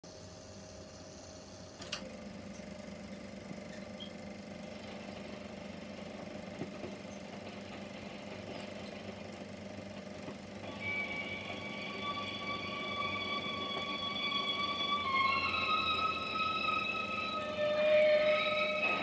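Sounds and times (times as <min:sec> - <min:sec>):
film projector whirring: 0:01.5 - 0:19.0.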